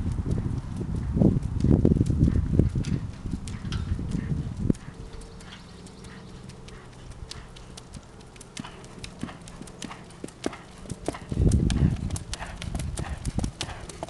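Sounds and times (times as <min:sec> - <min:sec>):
hoofbeats on dirt: 0:00.0 - 0:14.0.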